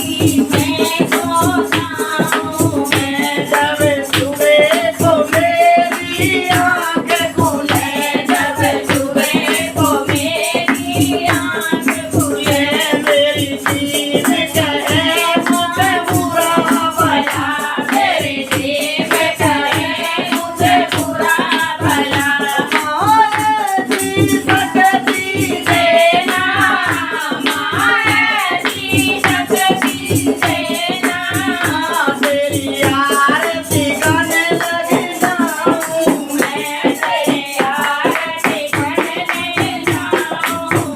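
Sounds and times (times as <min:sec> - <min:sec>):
hand percussion beat: 0:00.0 - 0:40.9.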